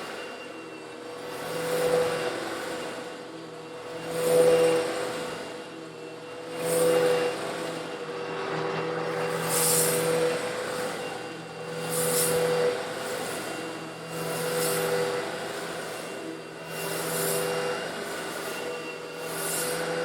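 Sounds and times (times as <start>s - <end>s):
vacuum cleaner motor running: 0.0s - 20.0s.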